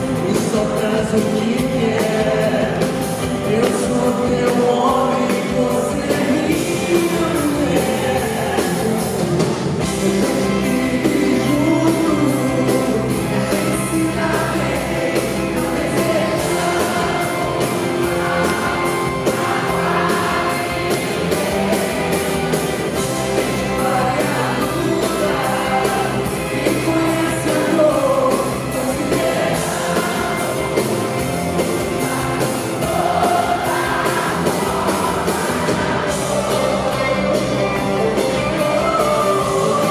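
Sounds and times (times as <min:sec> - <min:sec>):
live pop-rock band: 0:00.0 - 0:39.9.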